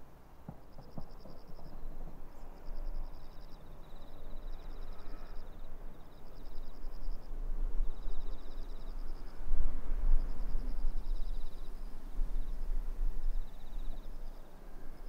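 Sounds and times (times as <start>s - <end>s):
insects chirping: 0.7s - 15.0s.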